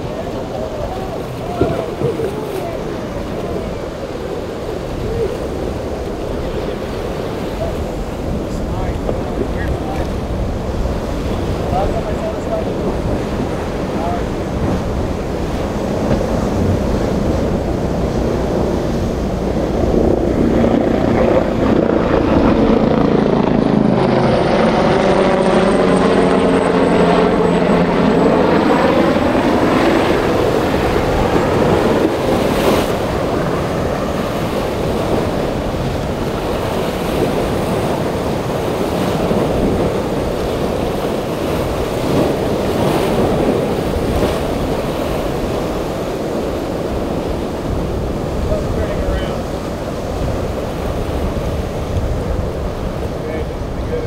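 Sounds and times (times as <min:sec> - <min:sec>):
passing engine drone: 0:00.0 - 0:54.0
surf washing: 0:00.0 - 0:54.0
wind: 0:00.0 - 0:54.0.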